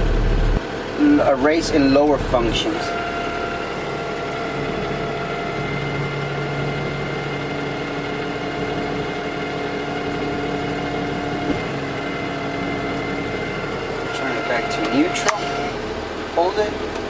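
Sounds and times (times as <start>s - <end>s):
diesel engine running: 0.0s - 17.0s
hydraulic pump whining: 0.0s - 17.0s.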